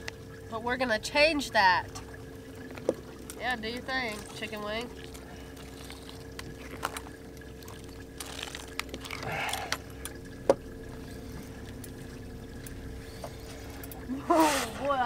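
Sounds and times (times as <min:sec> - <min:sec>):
steady low hum: 0:00.0 - 0:15.0
water trickling and splashing: 0:00.0 - 0:15.0.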